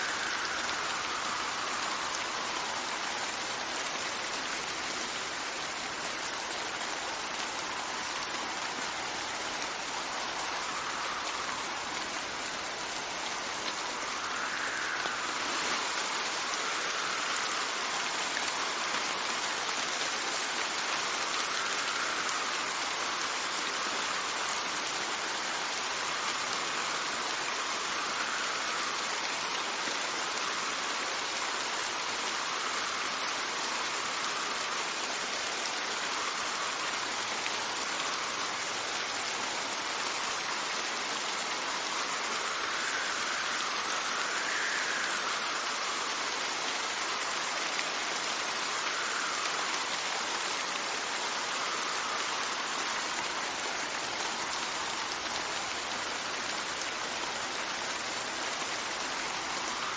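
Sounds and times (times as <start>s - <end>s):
steady rain: 0.0s - 59.9s
wind: 0.0s - 59.9s.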